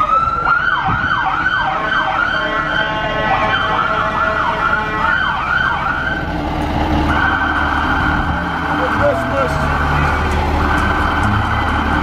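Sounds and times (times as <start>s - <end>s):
fire truck siren wail and yelp: 0.0s - 12.0s.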